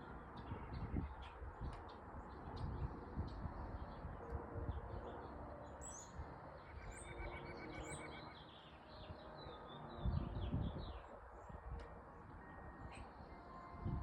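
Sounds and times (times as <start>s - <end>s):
songbirds chirping and twittering: 0.0s - 14.0s.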